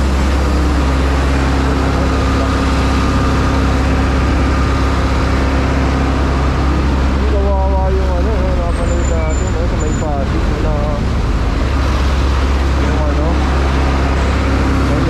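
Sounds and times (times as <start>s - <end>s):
diesel truck engines running: 0.0s - 15.0s
motorcycle engine: 0.0s - 15.0s
steady low hum: 0.0s - 15.0s.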